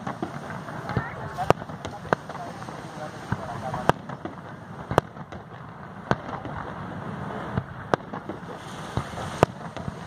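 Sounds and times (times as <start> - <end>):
firework crackle: 0.0 - 10.0
firework shells bursting: 0.0 - 10.0.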